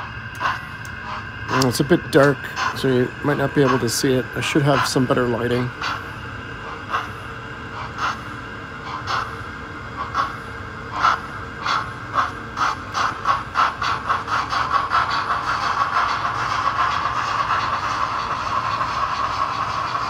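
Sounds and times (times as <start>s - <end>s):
steady steam hiss: 0.0s - 20.0s
steam locomotive exhaust chuffs: 0.0s - 20.0s.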